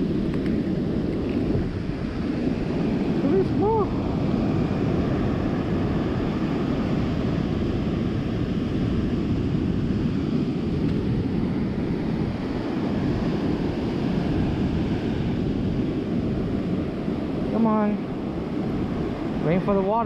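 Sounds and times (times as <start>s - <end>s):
ocean surf washing up beach: 0.0s - 20.0s
wind rumbling on microphone: 0.0s - 20.0s.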